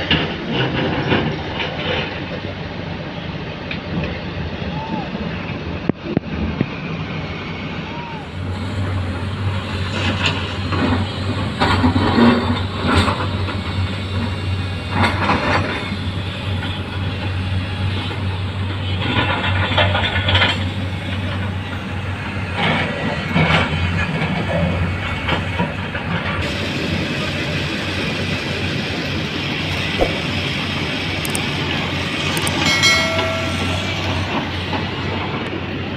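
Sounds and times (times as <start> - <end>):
diesel machinery droning: 0.0 - 35.9.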